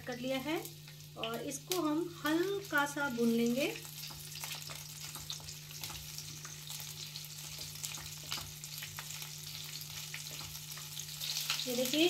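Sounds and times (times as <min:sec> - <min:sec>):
peppers sizzling in hot oil: 0:00.0 - 0:12.0.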